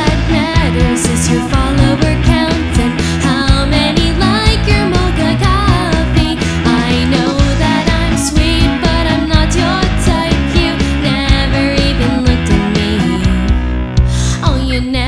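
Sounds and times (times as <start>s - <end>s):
pop-rock song with singing: 0.0s - 15.0s.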